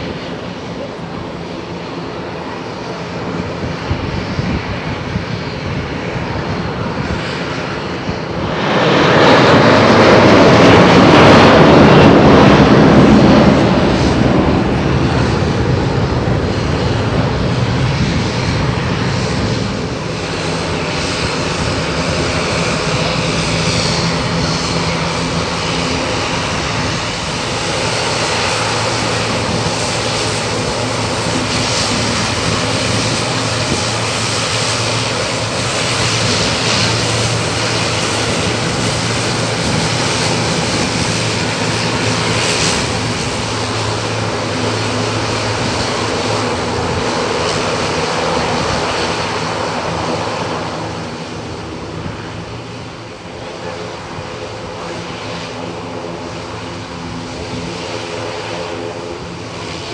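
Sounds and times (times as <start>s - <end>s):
turboprop engines propeller drone: 0.0s - 59.9s.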